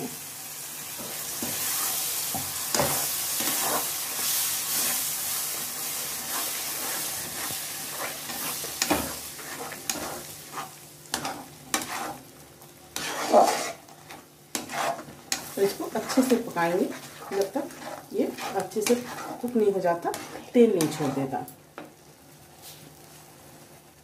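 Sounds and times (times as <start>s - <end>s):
tomato puree sizzling in oil: 0.0s - 24.0s
spatula scraping pan: 1.0s - 12.3s, 12.9s - 21.4s.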